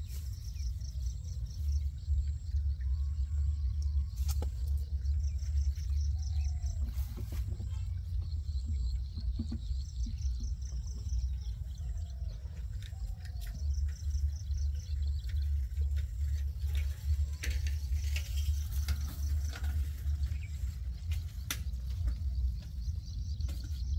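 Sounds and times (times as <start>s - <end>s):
low wind rumble on microphone: 0.0s - 23.9s.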